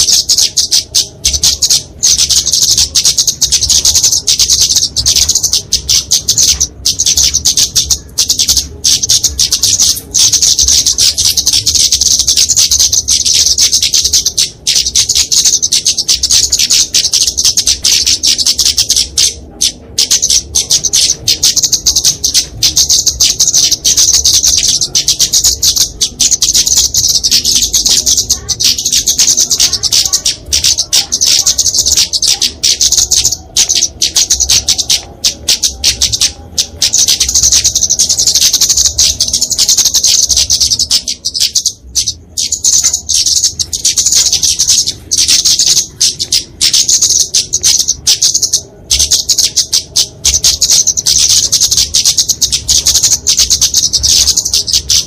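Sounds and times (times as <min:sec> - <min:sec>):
bird giving rapid high calls: 0:00.0 - 0:55.0.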